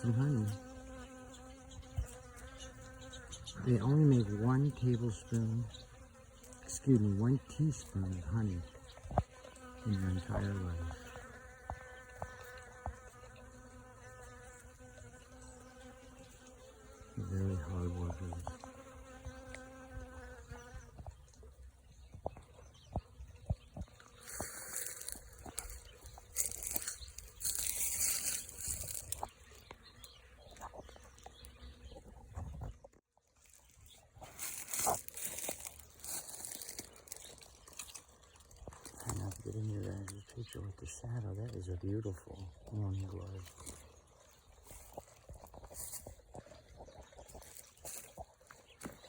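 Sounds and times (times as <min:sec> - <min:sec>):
honeybees buzzing: 0:00.0 - 0:21.3, 0:21.9 - 0:32.8, 0:33.5 - 0:49.0.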